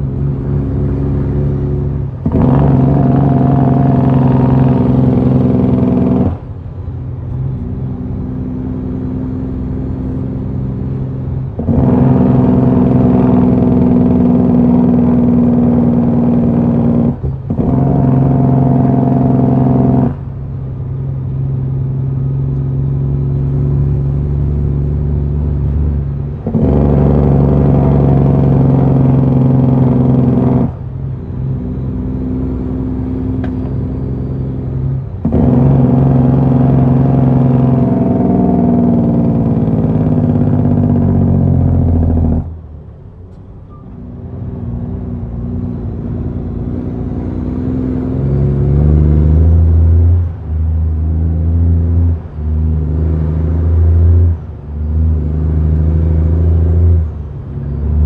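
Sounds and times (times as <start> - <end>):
truck diesel engine under load: 0.0 - 58.0.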